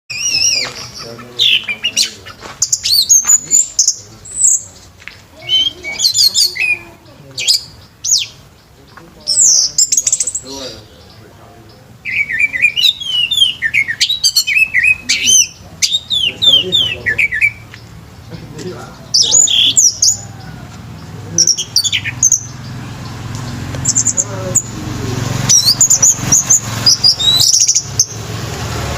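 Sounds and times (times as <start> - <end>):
thrush singing: 0.1 - 28.9.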